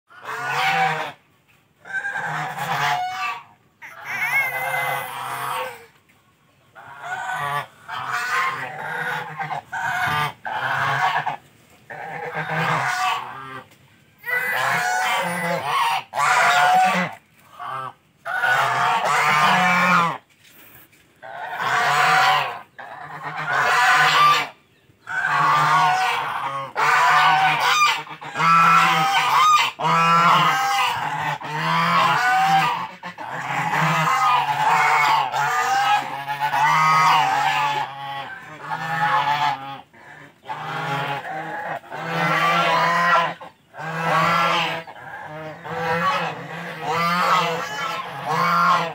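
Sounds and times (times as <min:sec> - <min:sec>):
geese honking: 0:00.1 - 0:01.2, 0:01.8 - 0:05.9, 0:06.8 - 0:20.3, 0:21.2 - 0:48.9.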